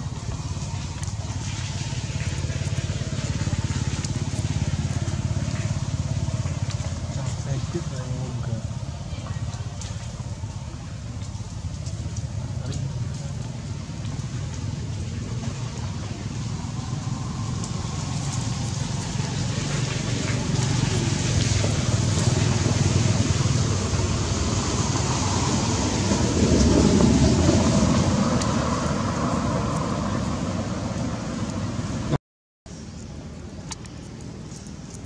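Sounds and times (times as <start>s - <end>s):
vehicle passing by: 0.0s - 32.2s.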